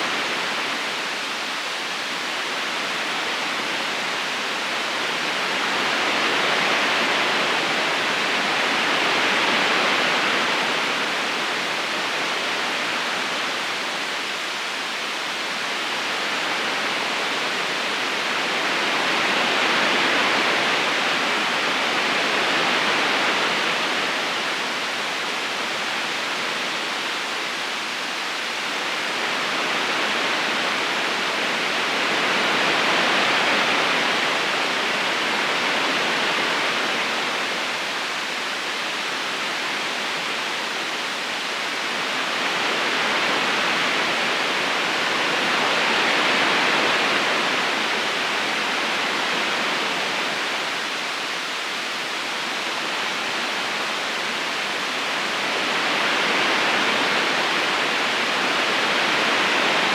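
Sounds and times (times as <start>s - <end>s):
river current rushing: 0.0s - 59.9s.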